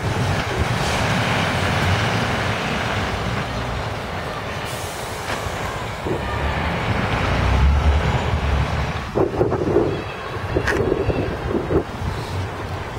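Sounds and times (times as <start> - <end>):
diesel trucks driving past: 0.0 - 12.9
road noise: 0.0 - 12.9.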